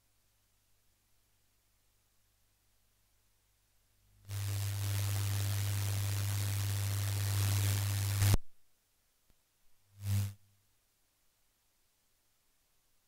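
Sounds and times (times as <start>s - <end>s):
electrical hiss with low hum: 0.0s - 13.0s.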